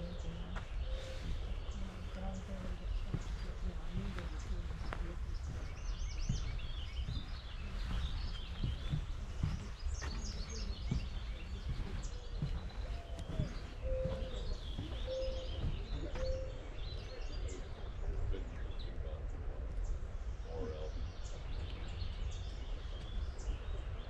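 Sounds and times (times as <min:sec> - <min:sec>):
songbirds chirping and trilling: 0:00.0 - 0:24.0
steady low rumble: 0:00.0 - 0:24.0.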